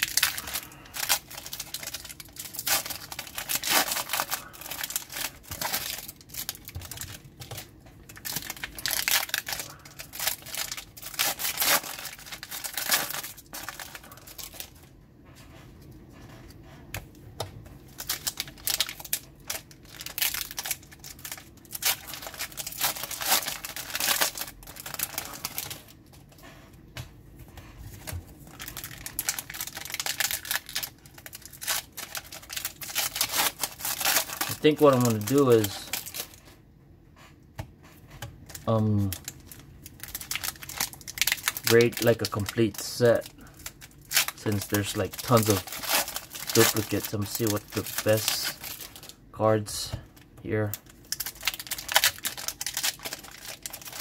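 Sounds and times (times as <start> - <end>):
foil wrappers tearing and crinkling: 0.0 - 14.8, 17.9 - 25.9, 28.5 - 36.4, 38.5 - 49.2, 50.5 - 54.0.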